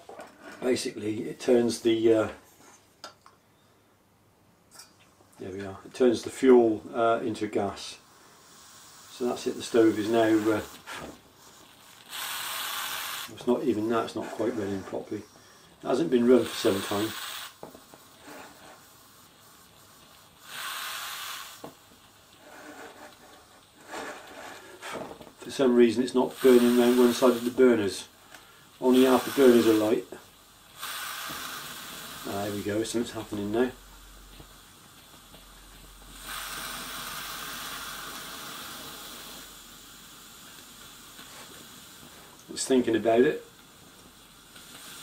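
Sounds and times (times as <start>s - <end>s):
stove burner hissing: 0.0s - 3.2s, 5.5s - 45.0s.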